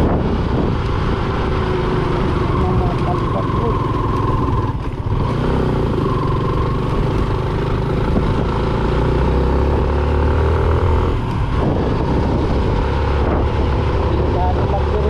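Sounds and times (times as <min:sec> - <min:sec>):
heavy low rumble: 0:00.0 - 0:08.9, 0:10.8 - 0:15.0
motorcycle engine running: 0:00.0 - 0:15.0.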